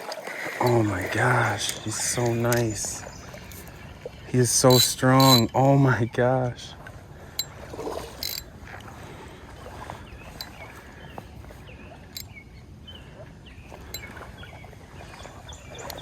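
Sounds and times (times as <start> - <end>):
river water sloshing: 0.0 - 16.0.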